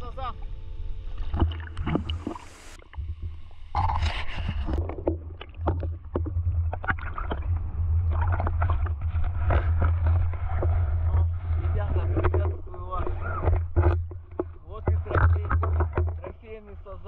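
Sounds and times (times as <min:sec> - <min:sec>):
steady low rumble: 0:00.0 - 0:17.0
water splashing against camera: 0:01.2 - 0:17.0.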